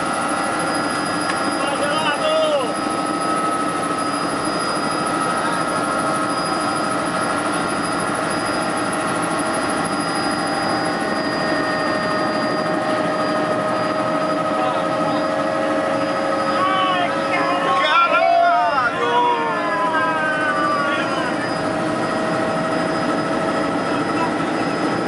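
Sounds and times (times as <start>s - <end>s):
helicopter running: 0.0s - 25.0s
whining tones: 0.0s - 25.0s.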